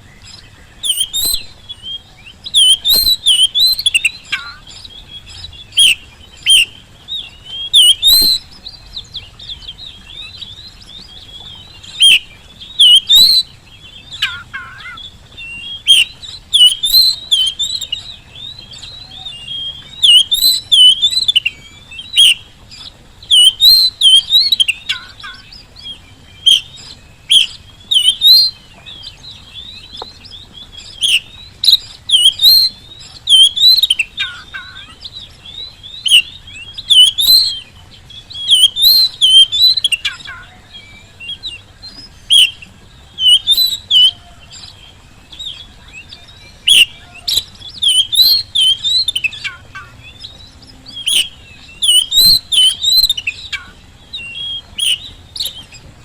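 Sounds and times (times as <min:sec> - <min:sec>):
bird song whistled notes: 0:00.0 - 0:56.0.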